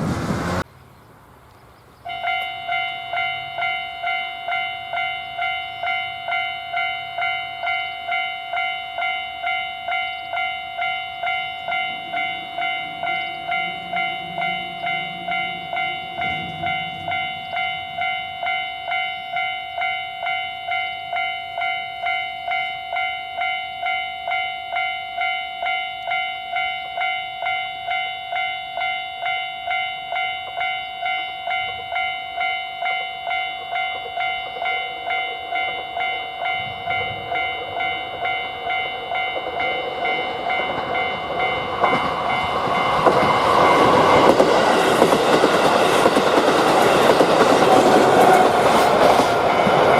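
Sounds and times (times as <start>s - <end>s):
train wheels running past: 0.0s - 0.6s, 2.0s - 49.9s
level crossing bell ringing: 2.1s - 43.0s.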